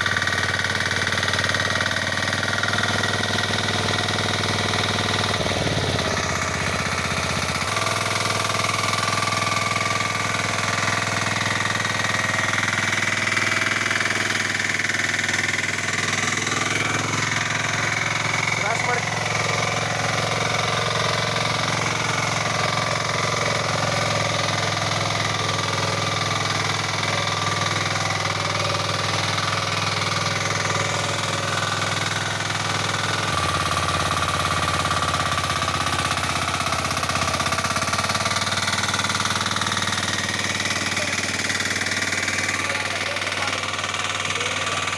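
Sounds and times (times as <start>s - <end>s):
diesel engine running under load: 0.0s - 44.9s
tines tilling soil: 0.0s - 44.9s.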